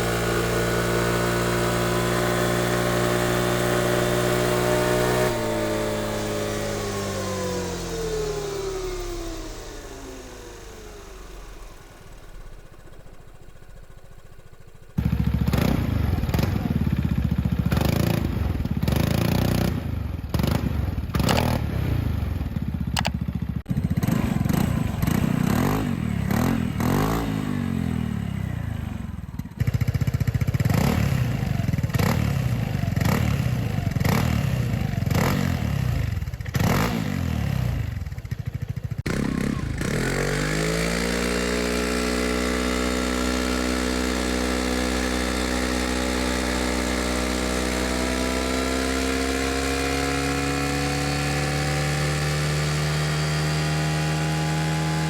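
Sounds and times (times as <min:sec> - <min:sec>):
scooter engine revving: 0:00.0 - 0:55.0.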